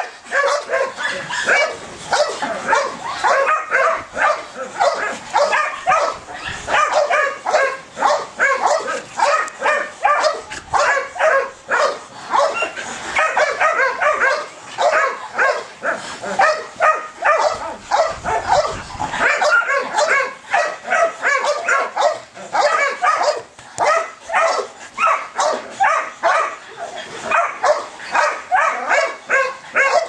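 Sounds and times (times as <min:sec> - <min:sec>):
dog yelping barks: 0:00.0 - 0:26.6, 0:27.2 - 0:30.0.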